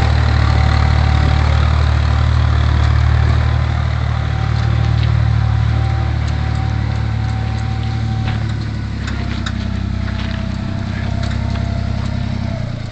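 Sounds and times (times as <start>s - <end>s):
tractor diesel engine under load: 0.0s - 12.9s.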